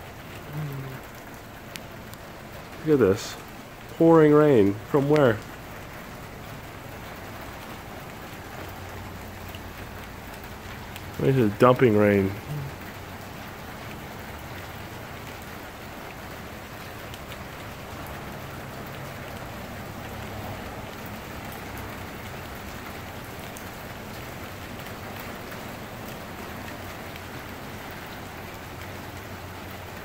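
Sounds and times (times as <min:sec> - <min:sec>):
heavy rain on pavement and cars: 0:00.0 - 0:30.0.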